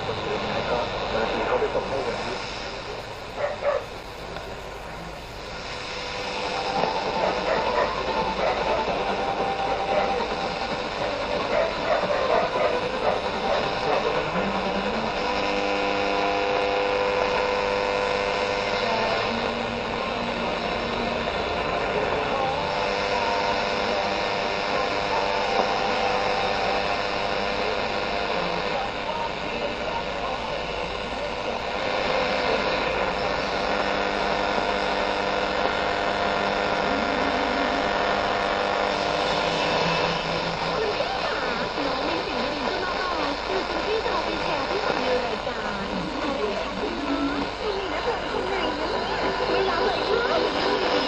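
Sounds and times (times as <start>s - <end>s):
faint radio station tones: 0.0s - 51.0s
radio static hiss: 0.0s - 51.0s.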